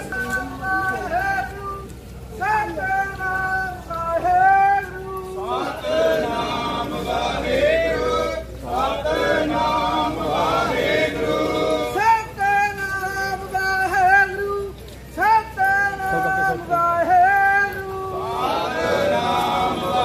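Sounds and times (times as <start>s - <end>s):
group singing devotional chant: 2.4s - 14.6s, 15.6s - 20.0s.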